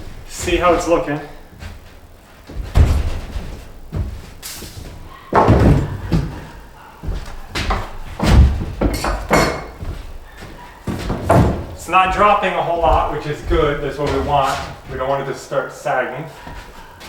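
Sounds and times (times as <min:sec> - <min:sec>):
wooden boards thumping and clattering: 0:00.0 - 0:17.0.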